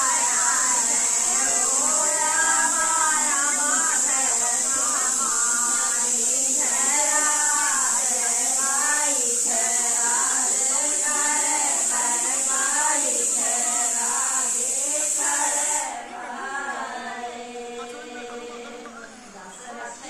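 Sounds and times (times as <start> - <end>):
steady high hiss: 0.0 - 20.0
women singing folk song: 0.0 - 20.0.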